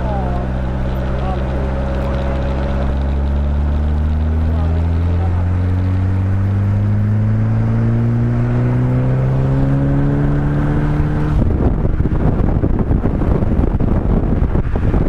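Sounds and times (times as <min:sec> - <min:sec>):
car engine accelerating: 0:00.0 - 0:15.0
wind buffeting microphone: 0:00.0 - 0:15.0.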